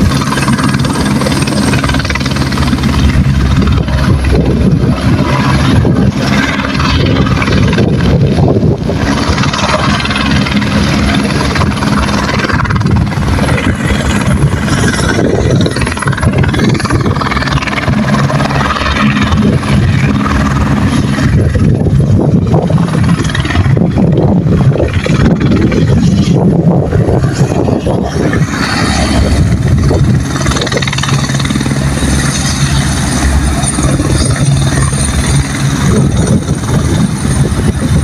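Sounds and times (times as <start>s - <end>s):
helicopter rotor and engine: 0.0s - 38.0s.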